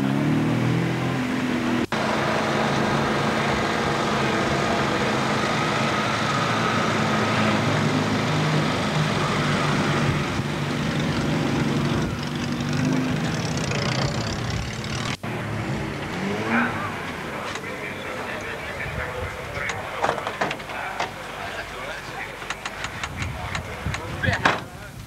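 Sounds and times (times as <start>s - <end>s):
rally car engines idling: 1.6s - 25.0s.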